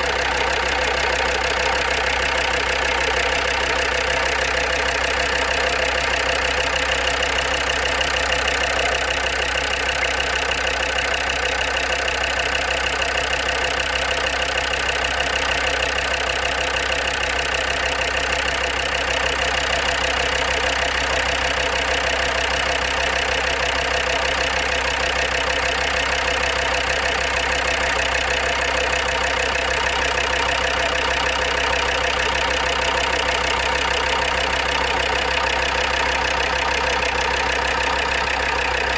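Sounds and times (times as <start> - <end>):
diesel engine idling: 0.0 - 38.9
engine ticking and tapping: 0.0 - 38.9.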